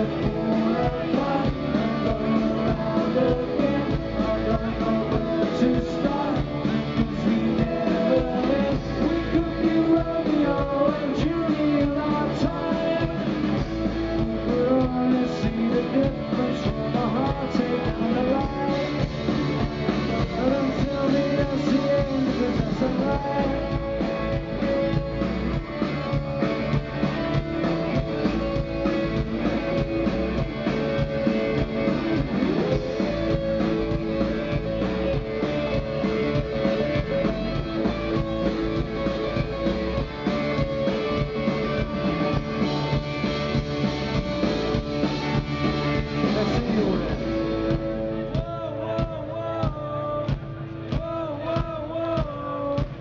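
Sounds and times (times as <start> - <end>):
rock band playing live: 0.0 - 53.0.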